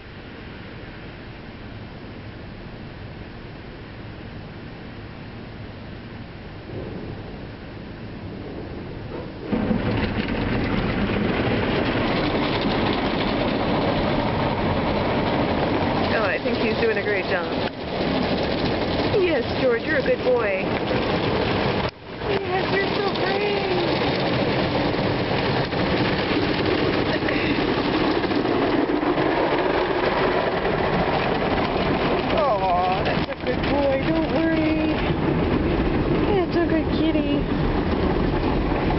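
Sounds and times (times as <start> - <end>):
car wash machinery and spray: 0.0 - 38.9.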